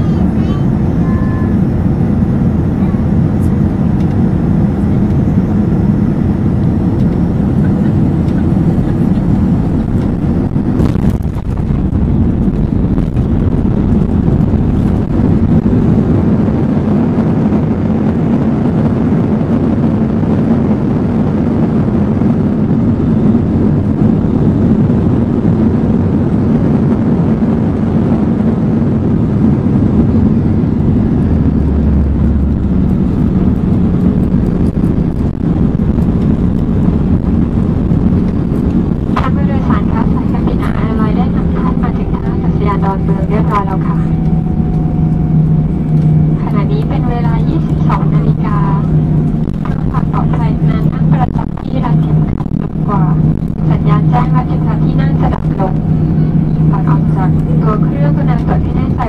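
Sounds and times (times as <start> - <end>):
jet engines running: 0.0 - 59.0
wheels rumbling on ground: 0.0 - 59.0.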